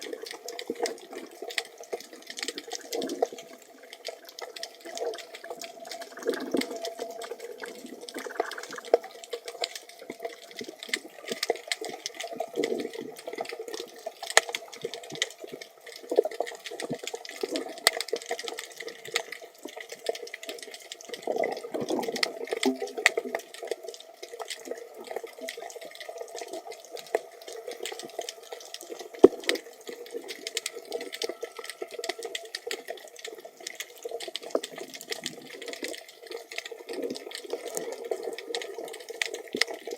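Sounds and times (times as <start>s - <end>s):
muffled underwater water rush: 0.0s - 39.9s
sharp clicks and crackles: 0.0s - 39.9s.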